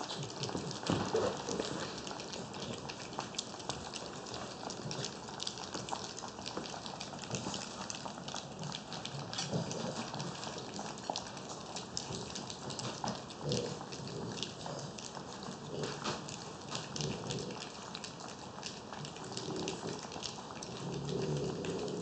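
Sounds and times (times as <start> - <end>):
puppies making low sounds: 0.0 - 22.0.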